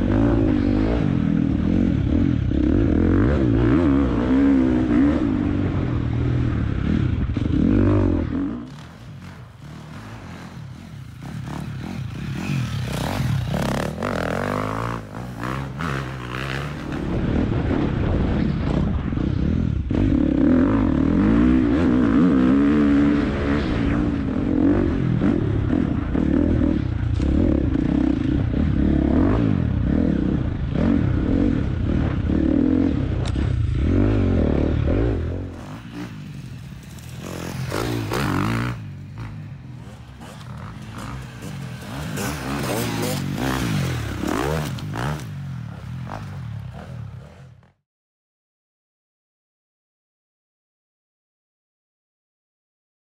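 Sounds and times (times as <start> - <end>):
dirt bike engine revving: 0.0 - 17.8, 19.2 - 47.8.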